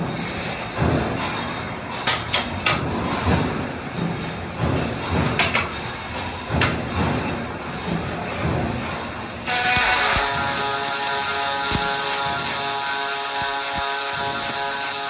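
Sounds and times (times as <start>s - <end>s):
sharp knocks and clanks: 0.0s - 15.0s
steady background noise: 0.0s - 15.0s.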